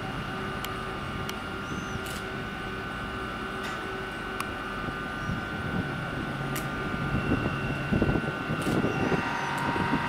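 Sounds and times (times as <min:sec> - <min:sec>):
electric trains humming: 0:00.0 - 0:10.0.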